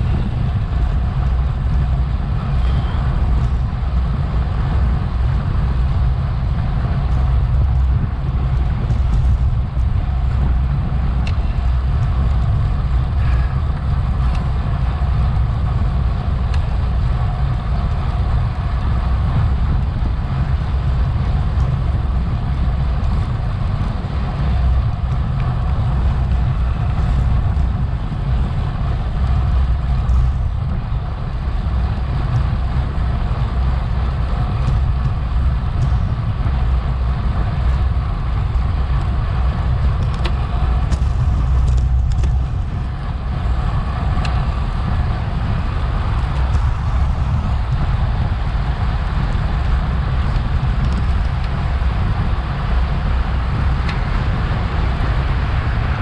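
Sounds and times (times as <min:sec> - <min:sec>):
bicycle drivetrain and tyre noise: 0:00.0 - 0:56.0
wind rumbling on microphone: 0:00.0 - 0:56.0.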